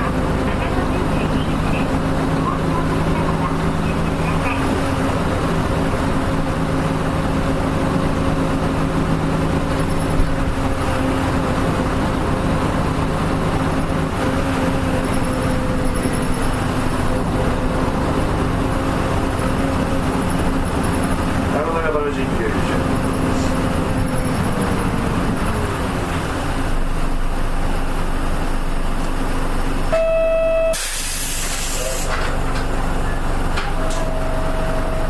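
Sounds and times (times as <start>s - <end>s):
bus diesel engine hum: 0.0s - 35.0s
road noise: 0.0s - 35.0s.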